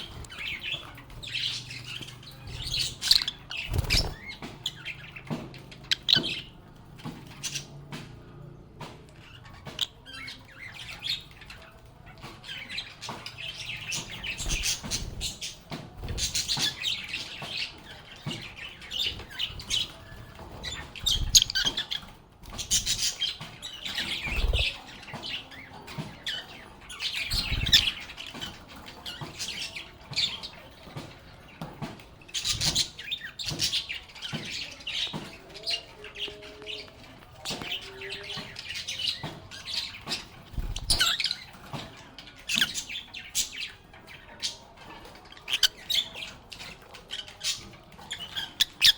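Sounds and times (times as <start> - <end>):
lovebirds chirping: 0.0 - 48.9.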